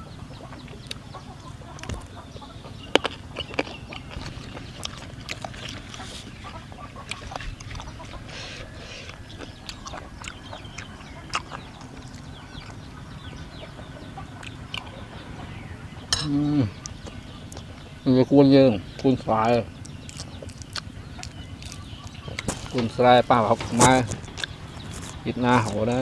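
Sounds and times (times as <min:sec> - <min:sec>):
chickens clucking and peeping: 0:00.0 - 0:26.0
steady low background noise: 0:00.0 - 0:26.0.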